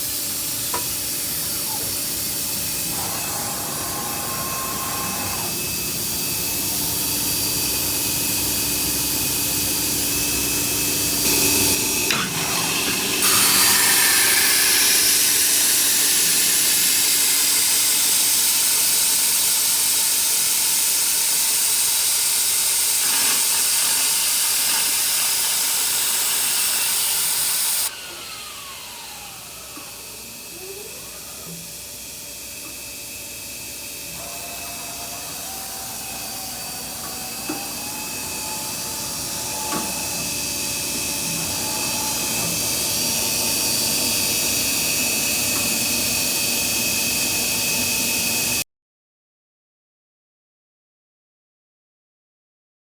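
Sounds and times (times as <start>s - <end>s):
woodworking router running: 0.0s - 48.6s
machine winding down whine: 0.5s - 20.5s, 22.6s - 48.6s.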